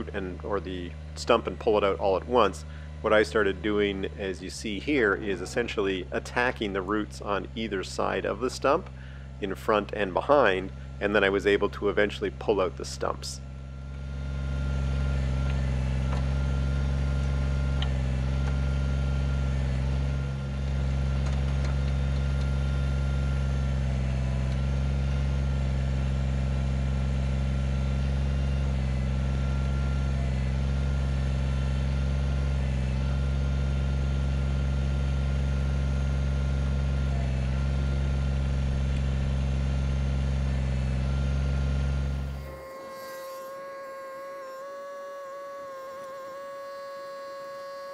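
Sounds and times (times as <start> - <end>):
tractor diesel engine running: 0.0 - 42.6.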